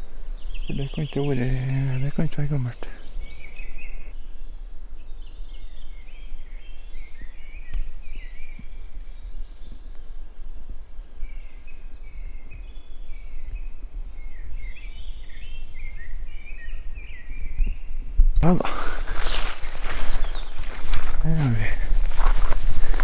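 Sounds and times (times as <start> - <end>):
songbirds chirping: 0.0 - 23.0
wind rumble on microphone: 3.0 - 23.0.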